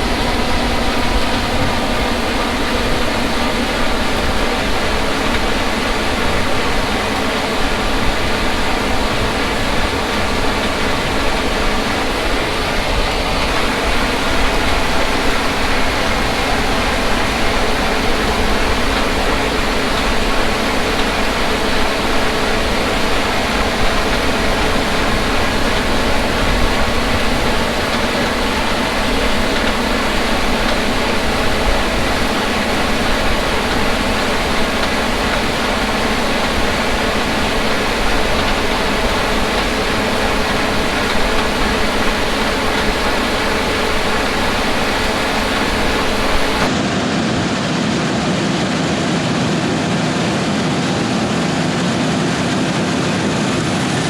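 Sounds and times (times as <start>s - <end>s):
harvest machinery engine drone: 0.0s - 54.0s.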